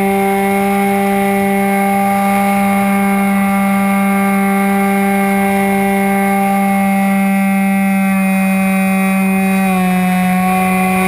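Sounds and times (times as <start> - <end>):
model plane motor drone: 0.0 - 11.0.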